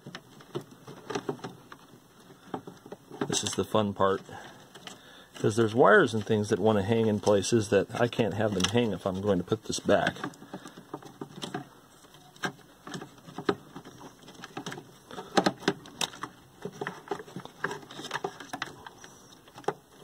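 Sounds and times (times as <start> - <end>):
cables tucked with clicks and rustles: 0.0 - 20.0.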